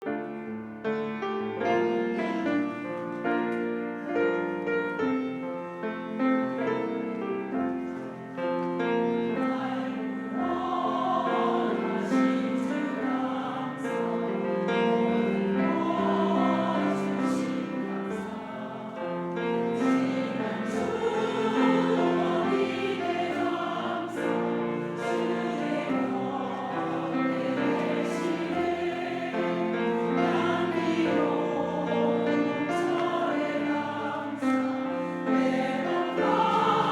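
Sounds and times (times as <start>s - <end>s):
choir singing a hymn: 0.0s - 36.9s
piano accompaniment: 0.0s - 36.9s.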